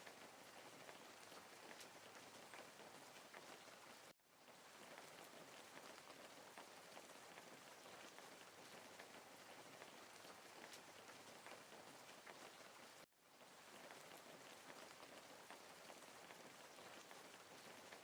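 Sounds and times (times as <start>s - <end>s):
faint rain: 0.0s - 18.0s
raindrop ticks: 0.0s - 18.0s.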